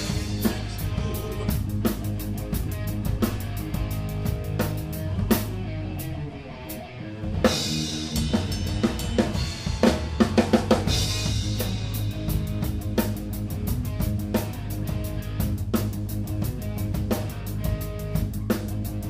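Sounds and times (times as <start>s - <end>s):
drum fill: 0.0s - 5.6s, 7.3s - 19.0s
drum kit: 0.0s - 19.0s
live rock band playing: 0.0s - 19.0s.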